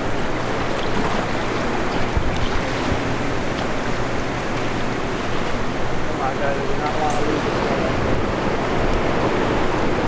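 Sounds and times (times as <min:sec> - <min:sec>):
fast river current rushing: 0:00.0 - 0:10.0.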